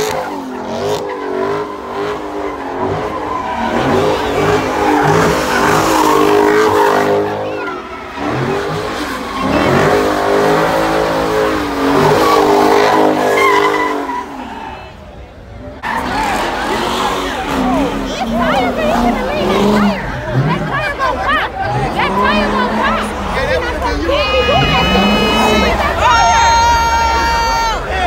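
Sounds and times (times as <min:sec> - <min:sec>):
car engine revving hard: 0:00.0 - 0:14.4, 0:16.0 - 0:26.0
tires spinning and squealing: 0:00.0 - 0:28.0.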